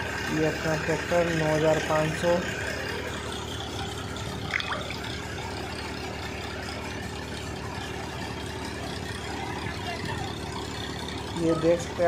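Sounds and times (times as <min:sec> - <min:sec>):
tractor engine: 0:00.0 - 0:12.0.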